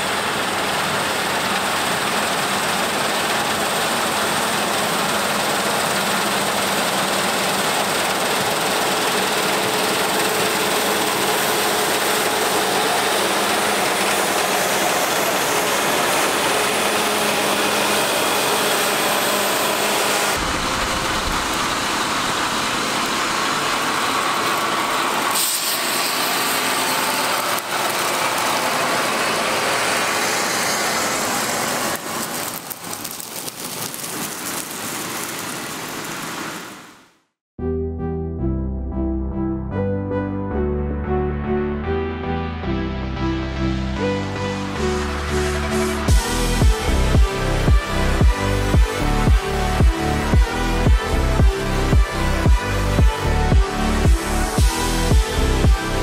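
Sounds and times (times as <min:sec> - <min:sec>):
harvest machinery drone: 0:00.0 - 0:36.6, 0:42.7 - 0:56.0.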